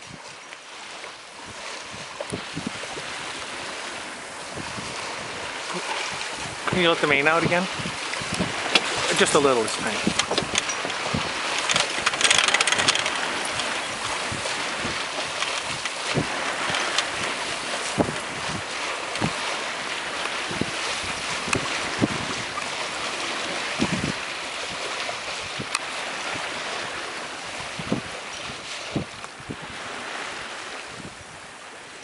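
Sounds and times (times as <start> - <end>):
water washing past hull: 0.0 - 32.0
wind rushing over microphone: 0.0 - 32.0.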